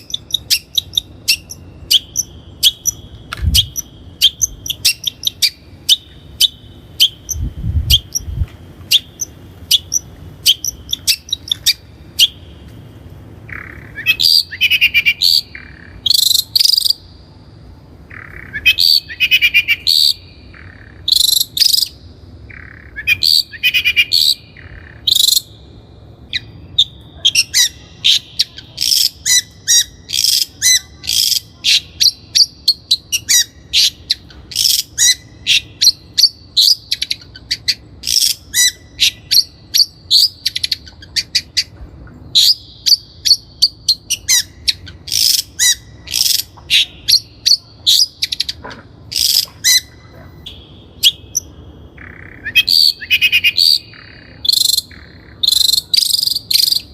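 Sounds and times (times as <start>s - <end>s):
bird chattering song: 0.0s - 12.8s, 13.4s - 17.3s, 18.0s - 56.9s.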